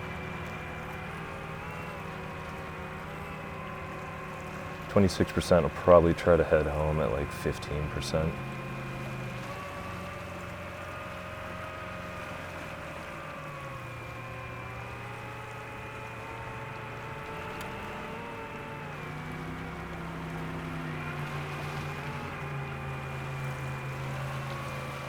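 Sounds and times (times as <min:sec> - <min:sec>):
motor hum: 0:00.0 - 0:25.0.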